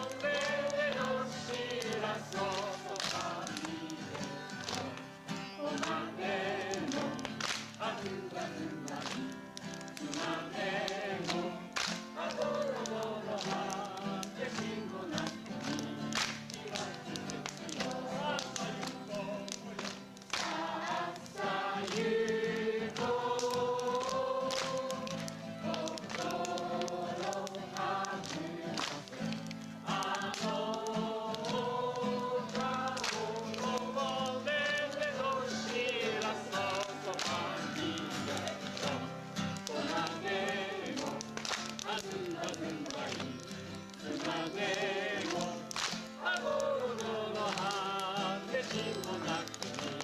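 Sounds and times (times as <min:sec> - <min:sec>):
group of people singing: 0:00.0 - 0:50.0
hand claps and slaps: 0:00.0 - 0:50.0.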